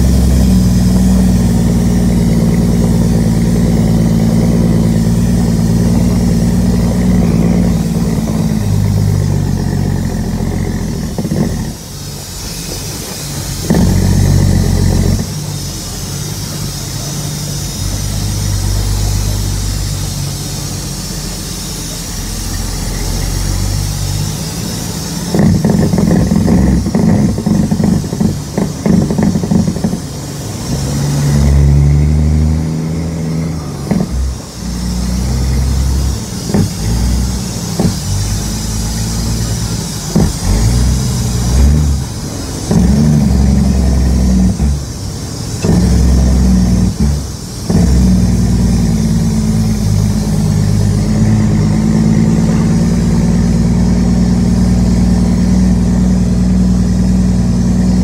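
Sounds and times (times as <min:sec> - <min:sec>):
road and wind hiss: 0:00.0 - 0:58.0
truck diesel engine under load: 0:00.0 - 0:58.0.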